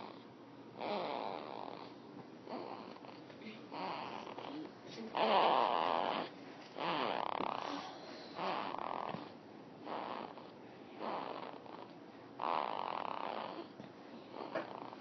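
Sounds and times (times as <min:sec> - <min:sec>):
snoring: 0:00.8 - 0:15.0.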